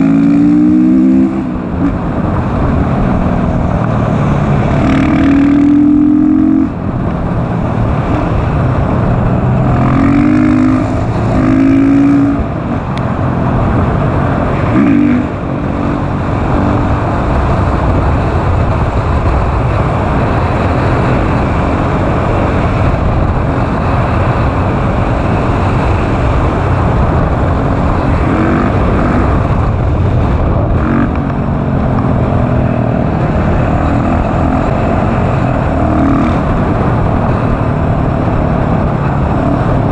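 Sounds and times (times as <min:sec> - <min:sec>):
motorcycle engine revving: 0:00.0 - 0:39.9
wind rush on camera: 0:00.0 - 0:39.9.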